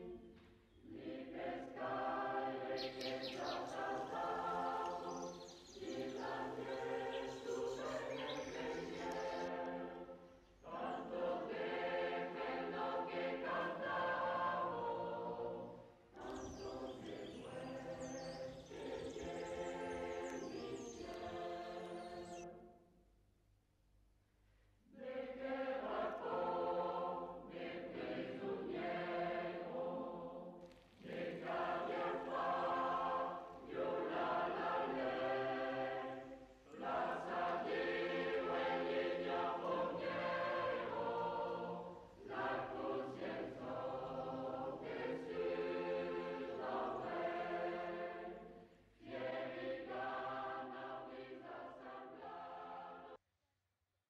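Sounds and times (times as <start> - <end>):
choir singing: 0.0 - 22.8, 24.9 - 53.2.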